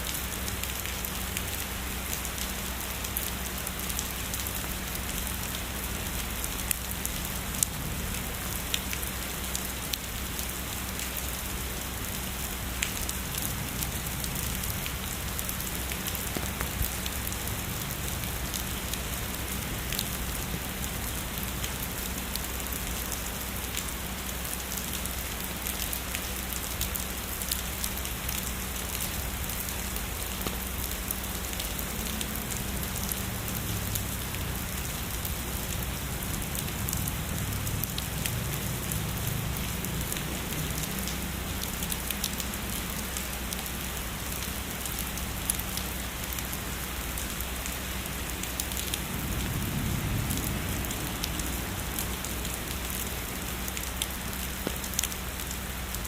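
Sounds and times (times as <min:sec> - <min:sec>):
heavy rainfall: 0:00.0 - 0:56.0
raindrops ticking on a surface: 0:00.0 - 0:56.0.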